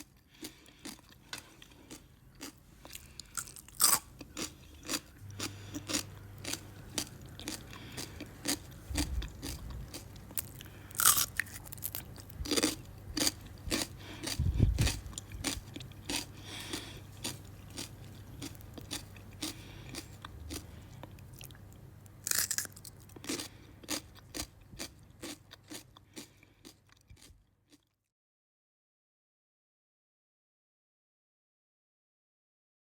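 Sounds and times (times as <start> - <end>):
low steady hum: 0.0 - 26.6
person chewing crunchy fruit: 0.0 - 27.9.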